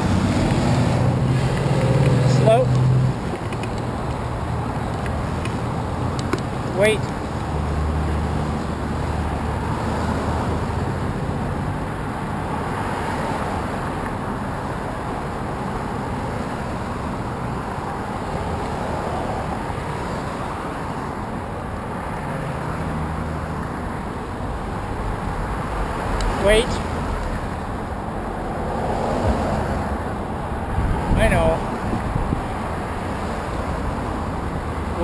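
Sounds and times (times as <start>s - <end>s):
passing vehicle hum: 0.0s - 35.0s
road traffic rushing past: 0.0s - 35.0s.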